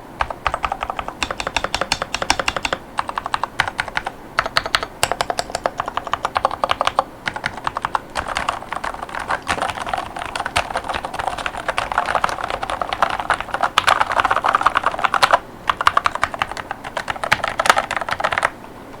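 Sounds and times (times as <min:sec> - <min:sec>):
keyboard typing clacks: 0:00.0 - 0:18.5.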